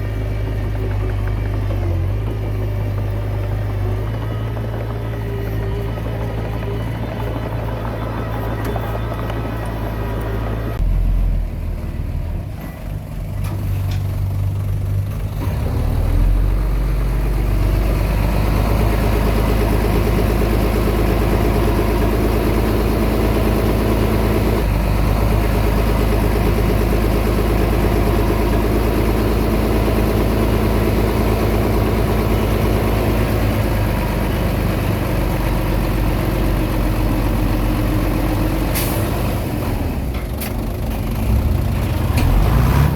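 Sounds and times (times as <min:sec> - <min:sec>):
bulldozer diesel engine running: 0:00.0 - 0:42.9.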